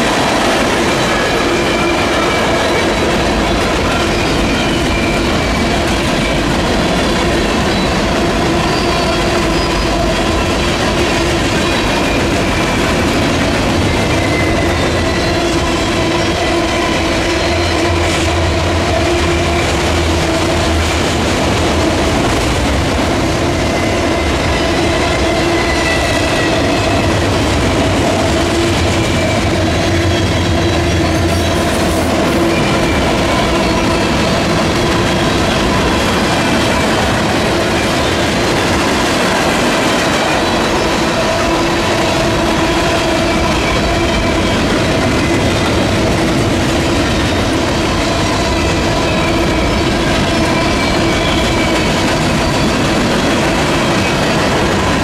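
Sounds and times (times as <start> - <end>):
freight train rumble and clatter: 0.0 - 55.0
high wheel squeals: 0.9 - 10.9, 11.5 - 21.0, 23.6 - 38.4, 40.0 - 55.0.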